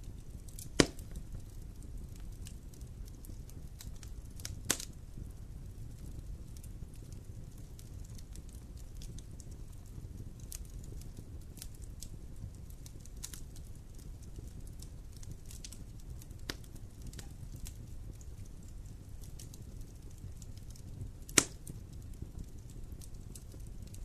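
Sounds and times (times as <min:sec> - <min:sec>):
fire crackles and pops: 0:00.0 - 0:24.0
wood fire burning: 0:00.0 - 0:24.0.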